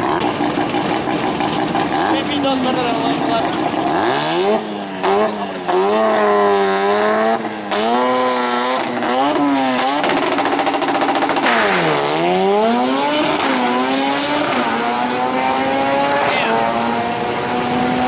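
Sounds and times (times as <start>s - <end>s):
rotary engine revving hard: 0.0s - 18.0s.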